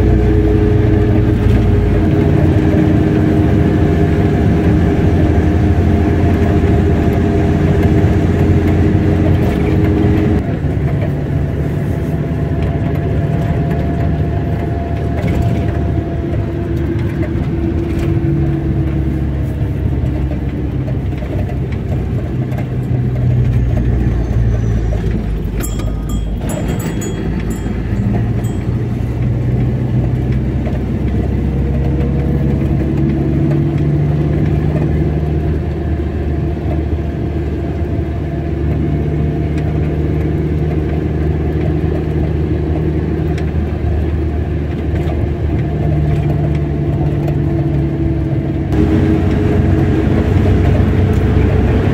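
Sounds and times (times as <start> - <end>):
car engine hum: 0.0 - 51.9
tyre and road noise: 0.0 - 51.9.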